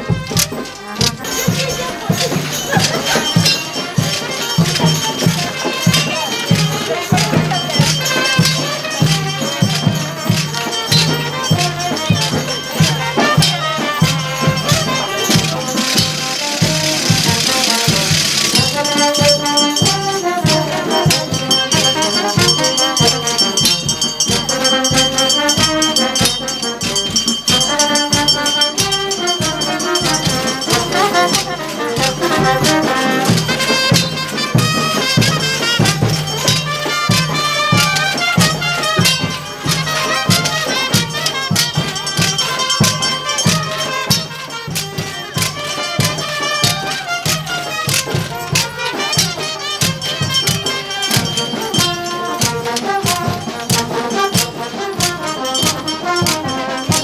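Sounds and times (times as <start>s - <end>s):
brass band playing: 0.0s - 57.0s
drums and rattling percussion: 0.0s - 57.0s.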